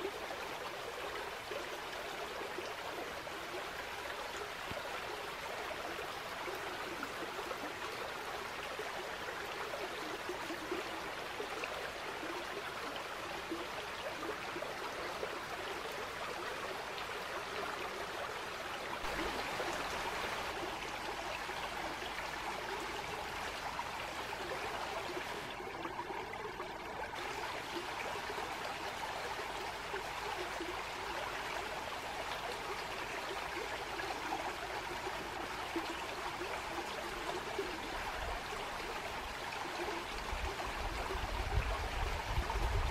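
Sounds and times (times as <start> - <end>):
stream water flowing: 0.0 - 42.9.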